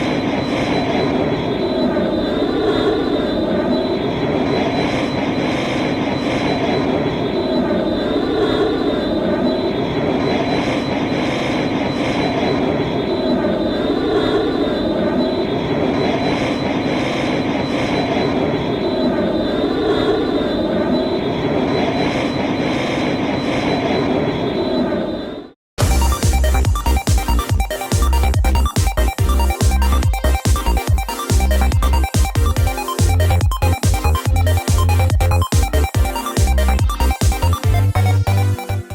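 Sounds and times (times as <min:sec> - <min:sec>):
jet-like engine hum with whistle: 0:00.0 - 0:38.9.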